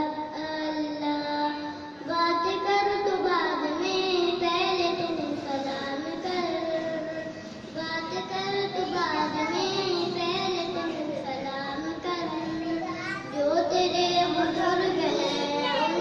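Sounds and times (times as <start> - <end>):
boy singing into a microphone: 0.0 - 16.0.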